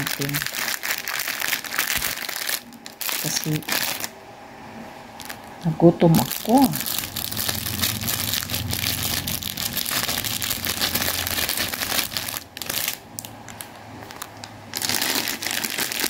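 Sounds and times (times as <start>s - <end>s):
plastic bag crinkling: 0.0s - 4.1s, 5.2s - 16.0s.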